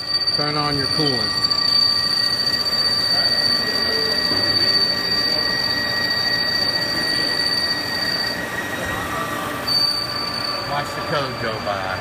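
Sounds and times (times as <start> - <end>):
high-pitched cutting squeal: 0.0 - 12.0
lathe cutting metal: 0.0 - 12.0.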